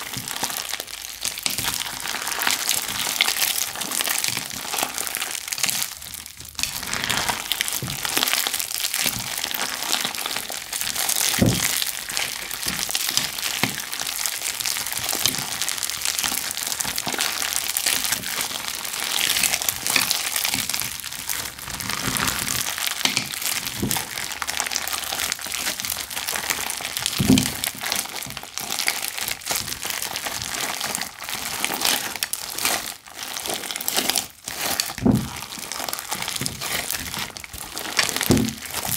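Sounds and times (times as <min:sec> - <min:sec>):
crunchy slime crackling: 0:00.0 - 0:38.9.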